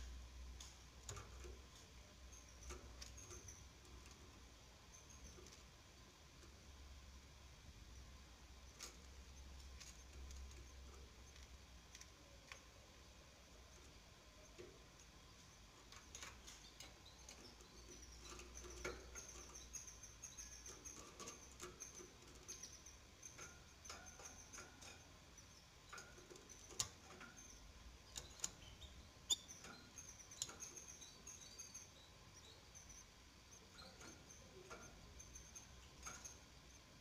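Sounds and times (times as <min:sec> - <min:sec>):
nestlings peeping: 0:00.0 - 0:37.0.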